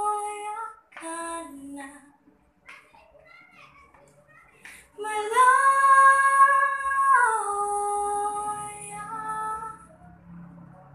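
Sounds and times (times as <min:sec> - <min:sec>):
girl singing unaccompanied: 0:00.0 - 0:09.9.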